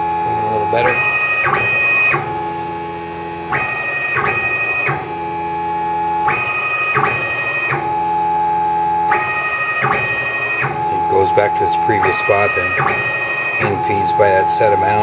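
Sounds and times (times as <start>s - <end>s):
stepper motor whining: 0.0s - 15.0s.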